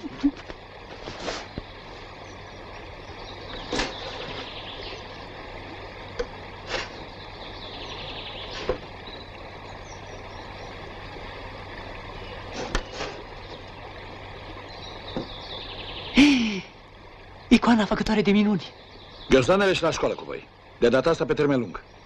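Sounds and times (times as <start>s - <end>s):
bird chirps: 1.2s - 5.3s, 6.7s - 11.1s, 12.0s - 22.0s.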